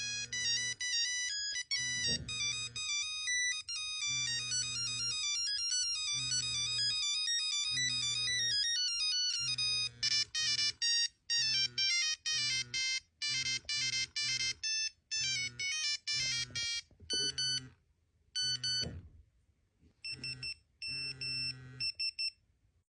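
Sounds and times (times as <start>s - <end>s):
mobile phone ringtone melodies: 0.0s - 17.7s, 18.4s - 19.0s, 20.0s - 22.3s.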